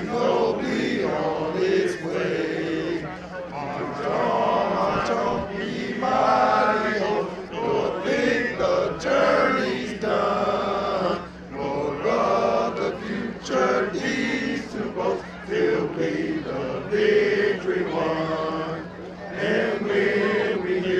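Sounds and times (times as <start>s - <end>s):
men chanting in unison: 0.0s - 20.9s.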